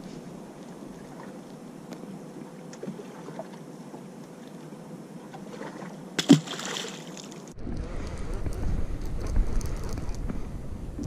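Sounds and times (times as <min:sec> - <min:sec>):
water around a boat: 0:00.0 - 0:11.0
wind: 0:00.0 - 0:11.0.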